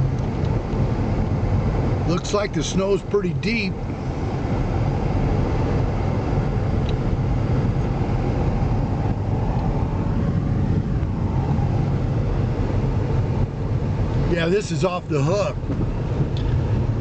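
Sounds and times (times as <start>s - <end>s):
car driving through snow: 0.0s - 14.5s.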